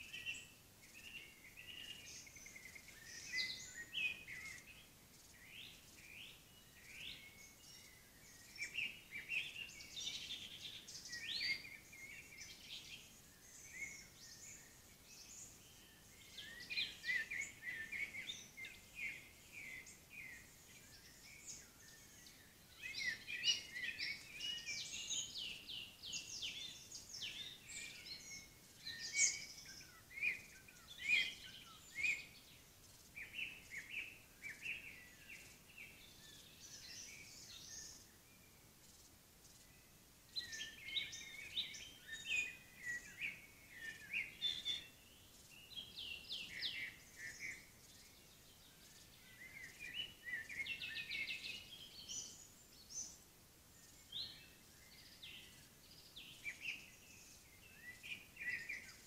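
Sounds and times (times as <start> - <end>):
faint steady hiss: 0.0 - 59.0
songbirds chirping and trilling: 0.0 - 59.0.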